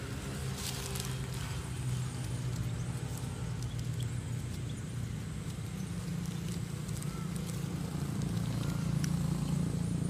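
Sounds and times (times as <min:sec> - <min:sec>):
dry leaves rustling: 0:00.0 - 0:10.0
low motor hum: 0:00.0 - 0:10.0.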